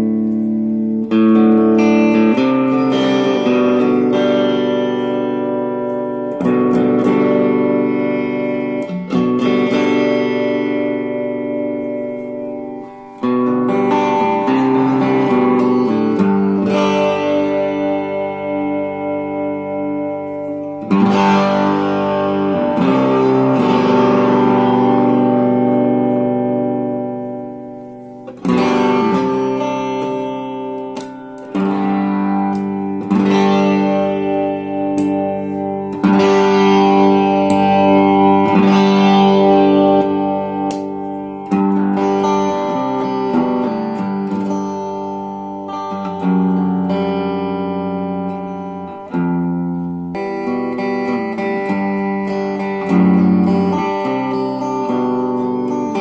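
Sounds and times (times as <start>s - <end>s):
electric guitar strumming chords: 0.0s - 56.0s.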